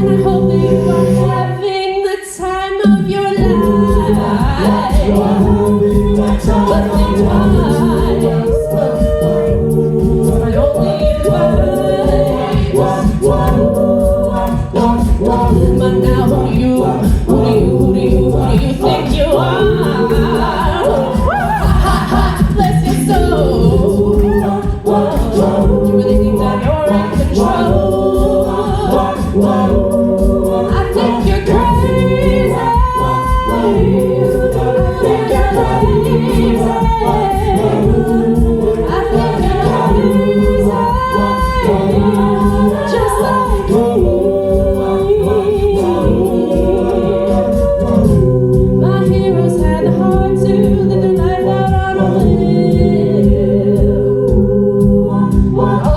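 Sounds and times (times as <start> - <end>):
choir singing: 0.0 - 55.9.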